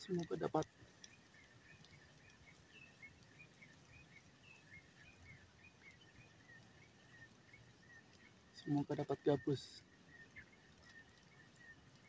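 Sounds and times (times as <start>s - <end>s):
bird chirping faintly: 0.0s - 12.0s.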